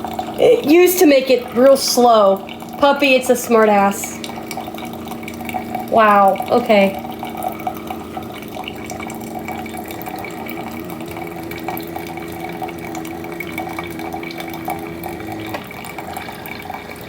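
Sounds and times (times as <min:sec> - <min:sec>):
coffee maker pump humming: 0:00.0 - 0:17.0
coffee streaming into mug: 0:00.0 - 0:17.0.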